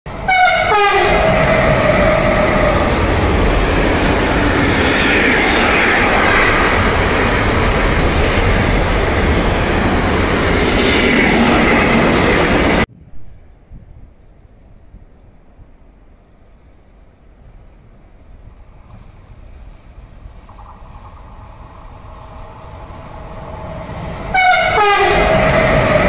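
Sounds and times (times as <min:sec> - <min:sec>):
train passing at speed: 0:00.1 - 0:12.9, 0:16.4 - 0:26.0.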